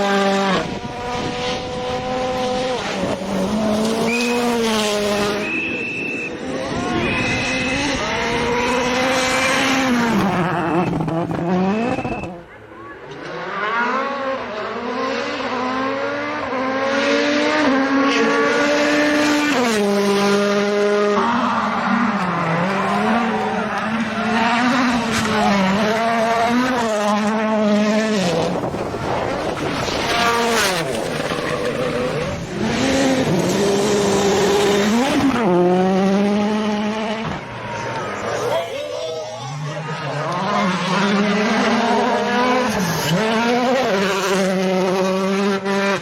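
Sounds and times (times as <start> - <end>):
rally car engine at high revs: 0.0 - 46.0.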